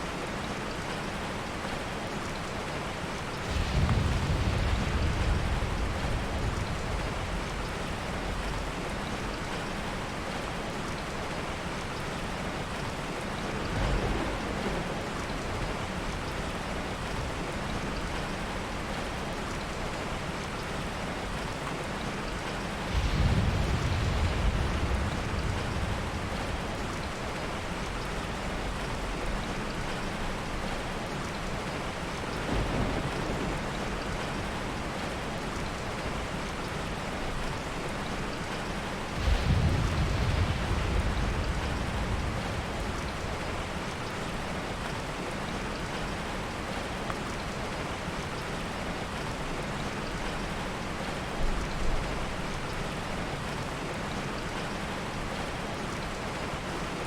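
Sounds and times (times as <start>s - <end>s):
heavy rain falling: 0.0s - 57.0s
soft thunder rumbles: 3.2s - 53.7s.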